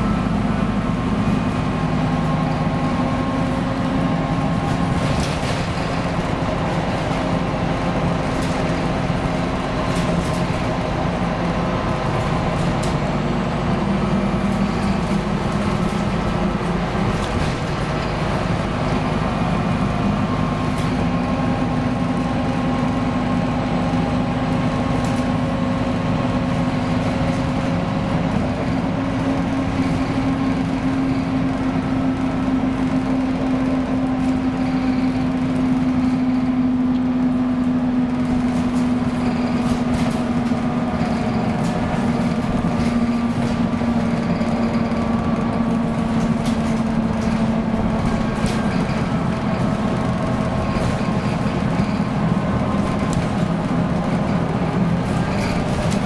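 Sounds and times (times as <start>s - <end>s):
diesel bus engine droning: 0.0s - 56.0s
tyre and road noise: 0.0s - 56.0s.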